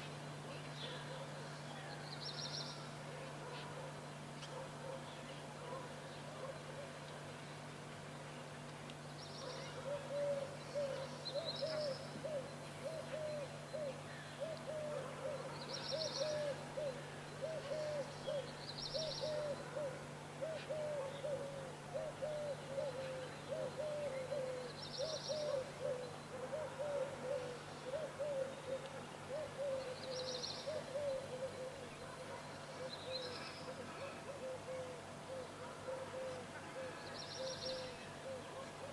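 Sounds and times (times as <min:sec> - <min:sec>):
bird cooing: 0:00.0 - 0:07.0, 0:09.3 - 0:38.9
steady low hum: 0:00.0 - 0:38.9.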